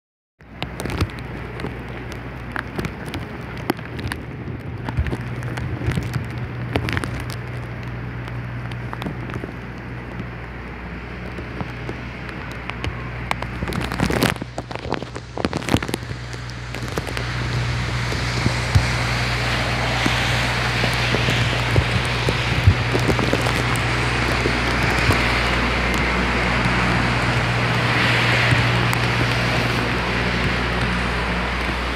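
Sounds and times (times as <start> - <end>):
rain hissing on pavement: 0.4 - 31.9
raindrops tapping close by: 0.4 - 31.9
strong wind: 0.4 - 31.9.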